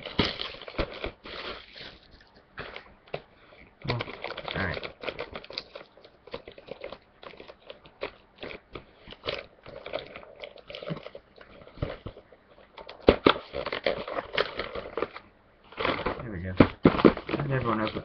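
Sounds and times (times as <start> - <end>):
plastic packaging crackling: 0.0 - 3.2, 3.8 - 18.0.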